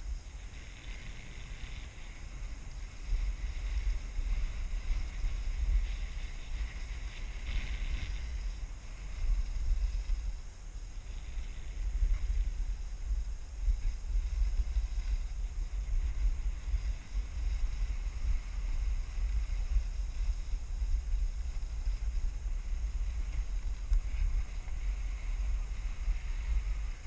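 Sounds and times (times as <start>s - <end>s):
skis sliding over snow: 0.0s - 27.0s
wind buffeting microphone: 0.0s - 27.0s.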